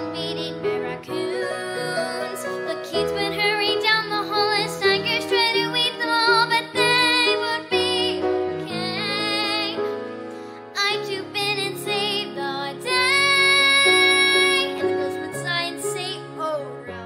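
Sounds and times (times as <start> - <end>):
boy singing: 0.0 - 9.8, 10.8 - 17.0
piano accompaniment: 0.0 - 17.0.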